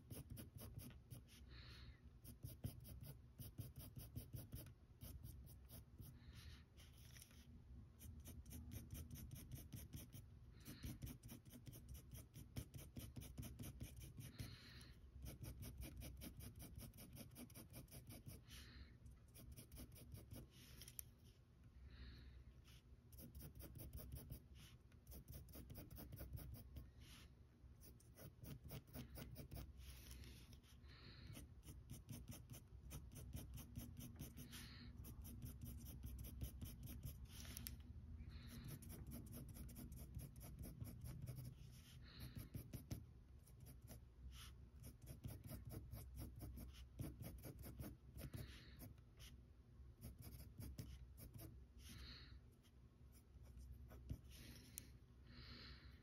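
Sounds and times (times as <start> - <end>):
pencil scratching on paper: 0.0 - 21.4, 22.6 - 54.9.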